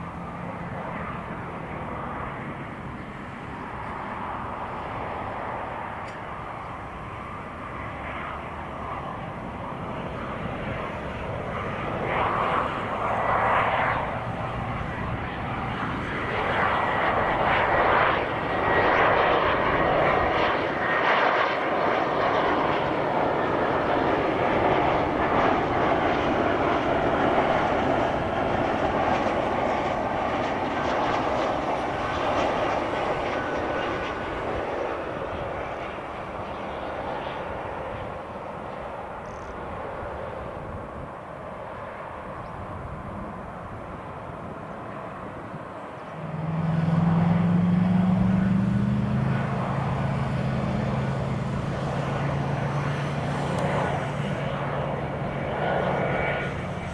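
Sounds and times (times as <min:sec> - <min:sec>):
jet roar with high whine: 0:00.0 - 0:56.9.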